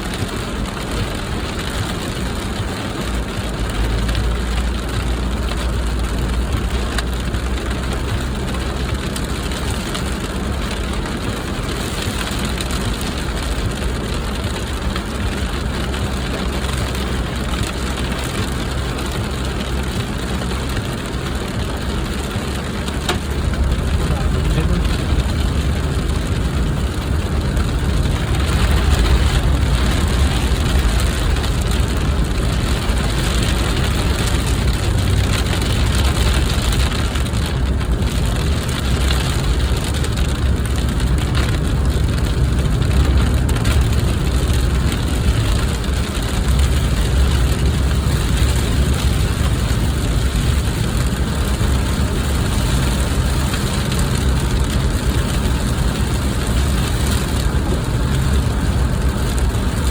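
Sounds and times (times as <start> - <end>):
car engine and road rumble: 0.0 - 59.9
heavy rain on a car: 0.0 - 59.9.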